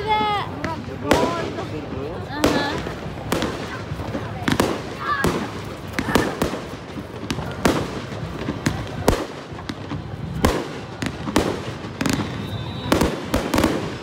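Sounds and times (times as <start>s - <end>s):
fireworks bursting with sharp bangs: 0.0s - 14.0s
rumbling between fireworks bangs: 0.0s - 14.0s.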